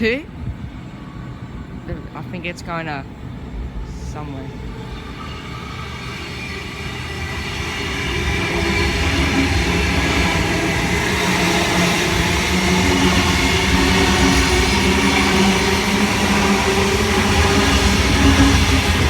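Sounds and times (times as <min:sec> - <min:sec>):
electric train passing: 0:00.0 - 0:19.0
rail noise: 0:00.0 - 0:19.0.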